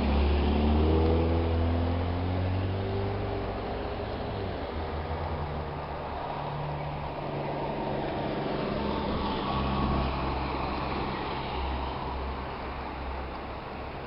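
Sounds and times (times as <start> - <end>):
car engines running: 0.0 - 14.0
tyre noise of passing vehicles: 0.0 - 14.0.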